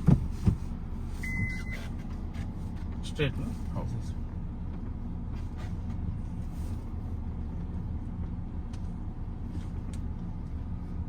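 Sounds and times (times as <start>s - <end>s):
suv engine low rumble: 0.0s - 11.0s.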